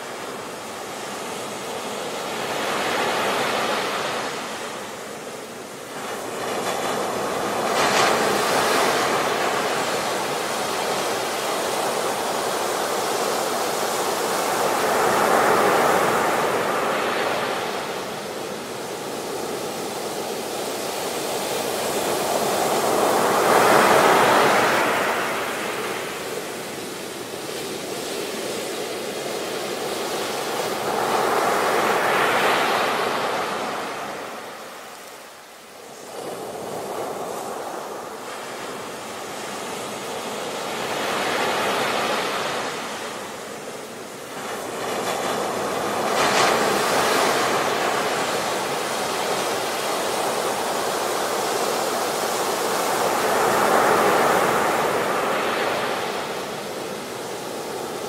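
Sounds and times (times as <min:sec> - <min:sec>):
ocean waves breaking: 0:00.2 - 0:58.0.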